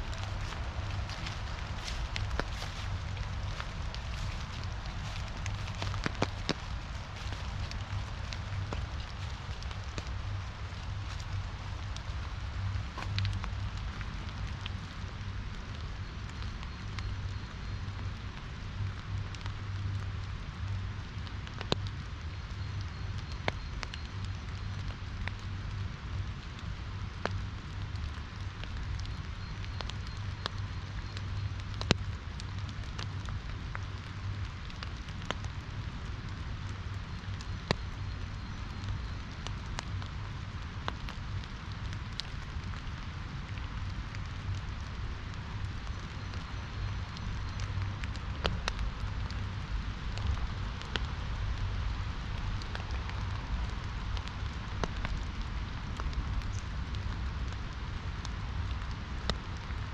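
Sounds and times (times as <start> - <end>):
rain drops hitting: 0.0 - 59.9.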